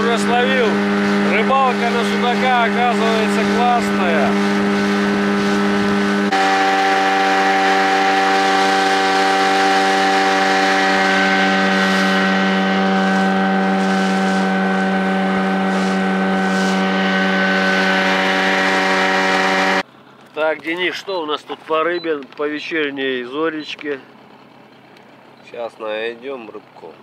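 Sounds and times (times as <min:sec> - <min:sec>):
outboard motor droning: 0:00.0 - 0:27.0.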